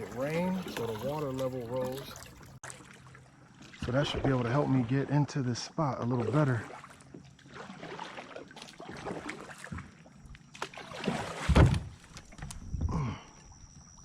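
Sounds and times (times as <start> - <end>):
water sloshing and splashing: 0.0 - 12.7.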